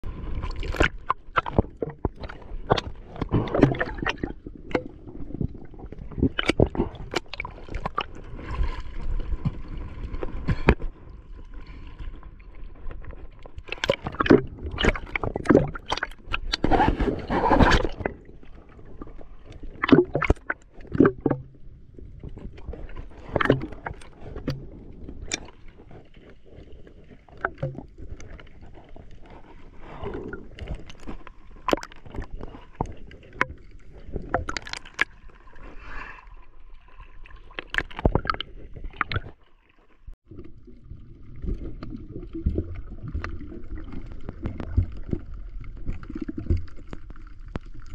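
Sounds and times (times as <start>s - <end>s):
sea water sloshing and splashing: 0.0s - 47.9s
water gurgling: 0.0s - 47.9s.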